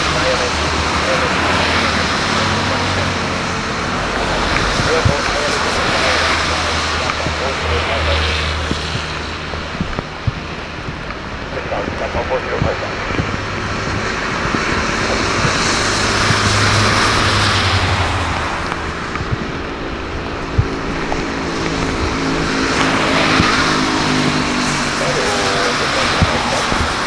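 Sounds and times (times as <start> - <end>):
engine running: 0.0 - 27.0
rushing roar: 0.0 - 27.0.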